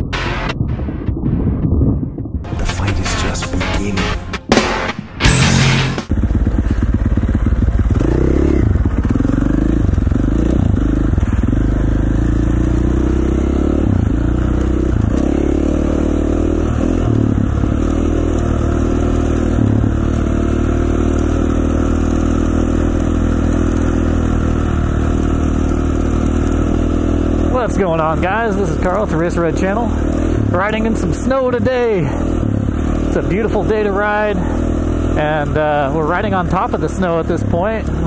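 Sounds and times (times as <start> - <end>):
dirt bike engine revving: 2.4 - 38.0.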